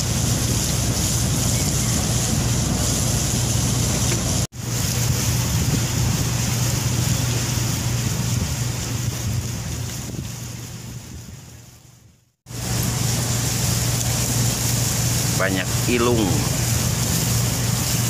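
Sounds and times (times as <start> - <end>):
boat motor drone: 0.0 - 11.8, 12.5 - 18.0
water rushing along hull: 0.0 - 18.0
wind on microphone: 0.0 - 18.0.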